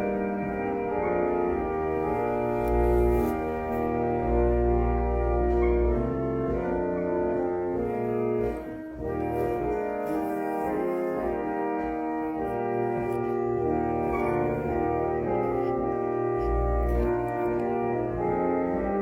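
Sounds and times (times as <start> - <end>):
church organ playing chords: 0.0 - 19.0.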